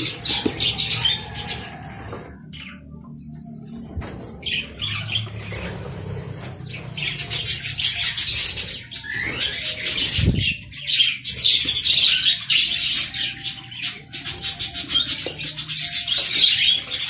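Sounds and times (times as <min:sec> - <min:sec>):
budgerigars chattering and squawking: 0:00.0 - 0:17.0.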